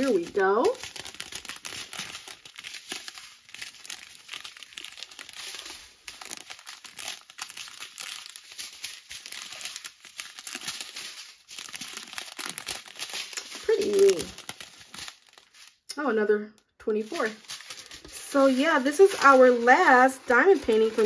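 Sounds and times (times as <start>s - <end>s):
plastic bags crinkling: 0.0s - 15.9s, 16.9s - 21.0s.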